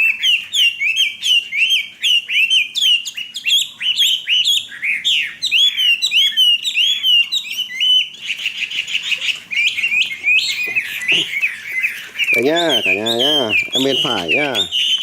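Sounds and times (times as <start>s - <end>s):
bird singing whistled notes: 0.0s - 15.0s.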